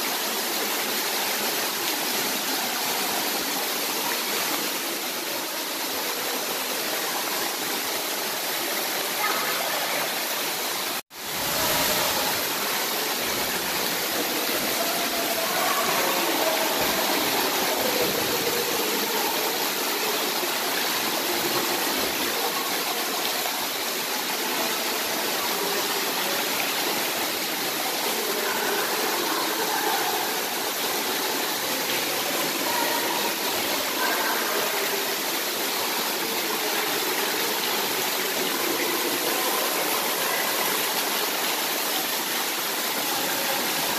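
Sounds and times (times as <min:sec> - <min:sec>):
rushing and splashing water: 0:00.0 - 0:43.9.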